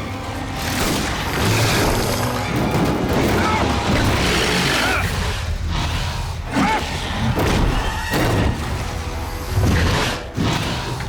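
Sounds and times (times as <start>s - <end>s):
dramatic score music: 0.0s - 11.0s.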